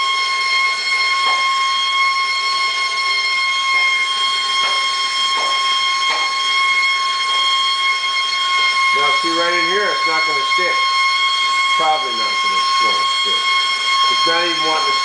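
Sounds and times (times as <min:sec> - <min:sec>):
high-pitched whistling tone: 0:00.0 - 0:15.0.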